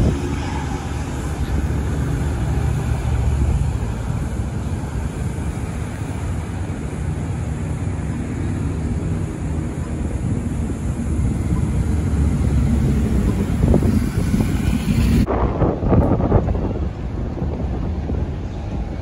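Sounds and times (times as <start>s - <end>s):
motorcycle engines rumbling: 0.0s - 19.0s
street traffic: 0.0s - 19.0s
wind buffeting microphone: 0.0s - 19.0s.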